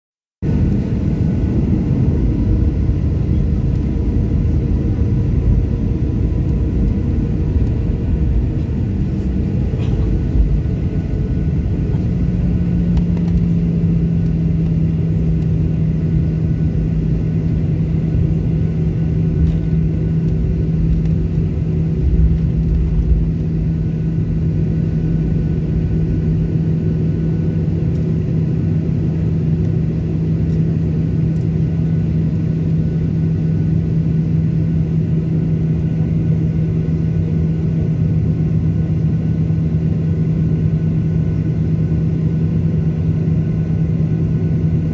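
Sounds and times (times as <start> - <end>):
jet engine cabin drone: 0.4 - 44.9.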